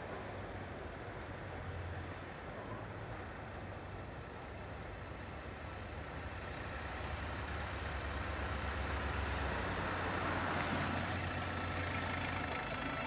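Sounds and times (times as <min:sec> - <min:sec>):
tyres rolling on street: 0:00.0 - 0:13.0.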